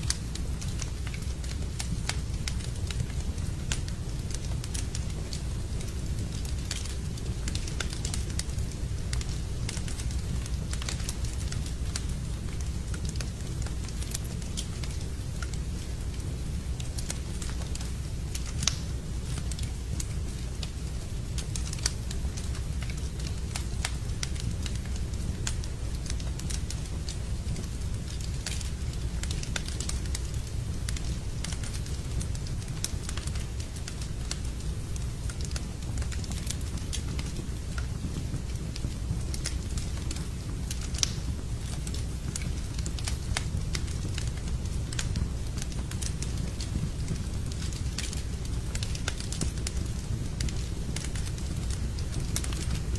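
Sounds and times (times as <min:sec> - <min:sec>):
fire crackling and popping: 0:00.0 - 0:52.9
low fire rumble: 0:00.0 - 0:52.9.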